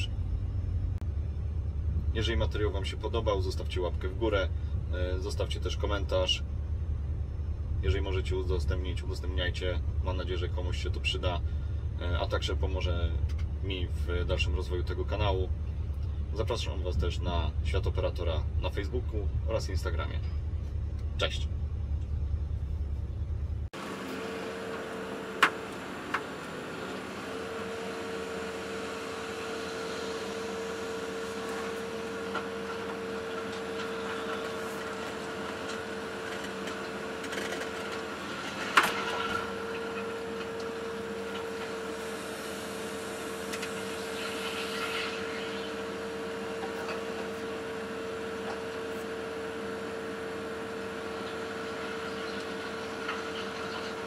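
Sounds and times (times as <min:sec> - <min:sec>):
excavator engine hum with whine: 0:00.0 - 0:54.0.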